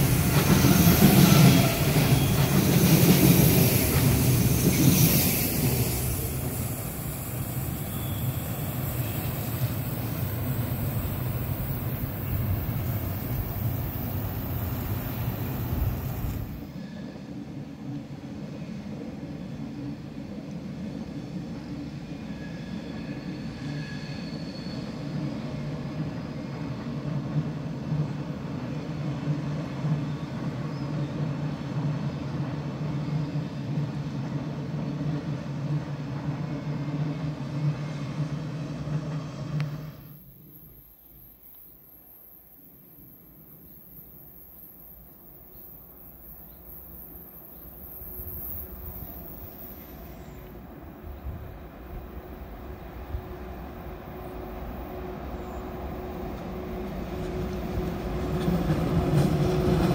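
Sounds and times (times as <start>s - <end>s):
distant electric train rumbling: 0.0s - 59.9s.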